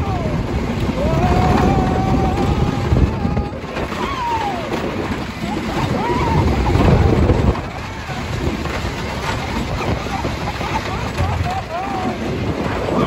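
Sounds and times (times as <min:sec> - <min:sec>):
riders whooping and screaming: 0:00.0 - 0:13.0
roller coaster train rumbling: 0:00.0 - 0:13.0
wind on microphone: 0:00.0 - 0:13.0.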